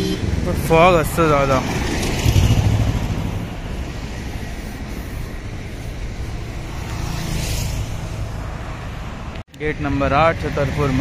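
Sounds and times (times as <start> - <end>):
car engine and tyres on road: 0.0 - 11.0.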